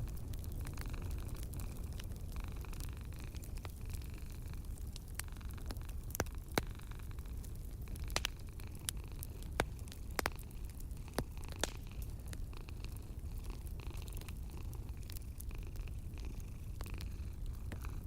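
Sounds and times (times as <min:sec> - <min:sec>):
low rumble and soft hiss: 0:00.0 - 0:18.0
wood fire crackling: 0:00.0 - 0:18.0.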